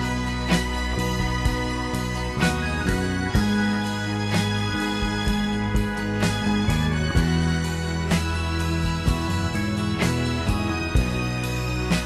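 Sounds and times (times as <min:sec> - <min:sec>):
sustained chords: 0:00.0 - 0:12.0.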